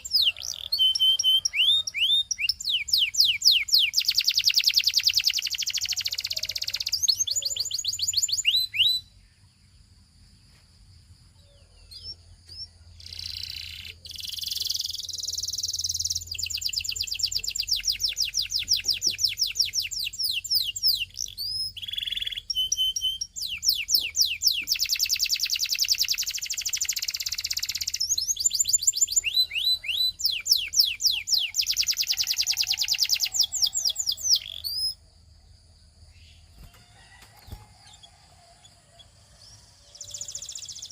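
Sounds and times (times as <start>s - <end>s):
canary singing trills: 0.0s - 9.9s, 11.3s - 40.9s.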